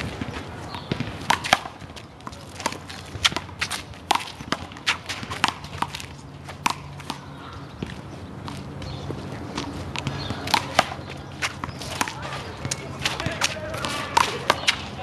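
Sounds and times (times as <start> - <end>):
footsteps on court: 0.0 - 15.0.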